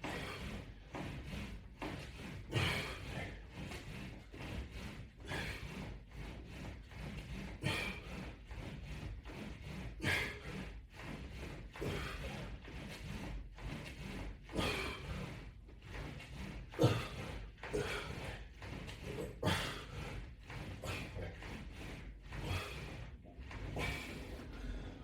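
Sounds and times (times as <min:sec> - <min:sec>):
man breathing forcefully: 0:00.0 - 0:13.2, 0:14.4 - 0:25.0
exercise bands rubbing and thudding: 0:00.0 - 0:25.0.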